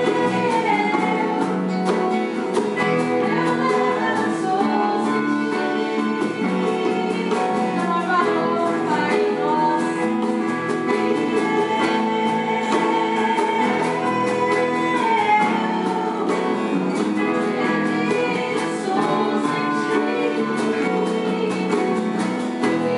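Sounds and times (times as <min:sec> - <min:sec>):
person singing worship song: 0:00.0 - 0:01.6, 0:02.7 - 0:22.9
strummed acoustic guitar: 0:00.0 - 0:22.9.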